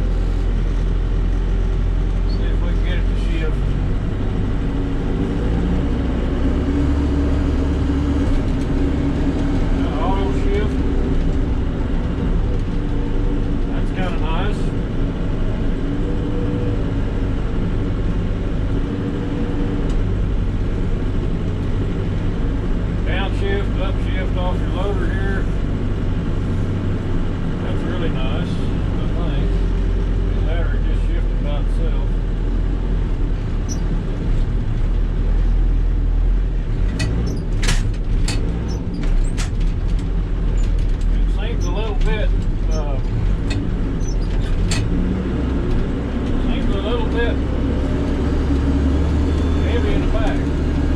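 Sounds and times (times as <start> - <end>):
diesel engine running: 0.0 - 50.9
faint engine whine: 0.0 - 50.9.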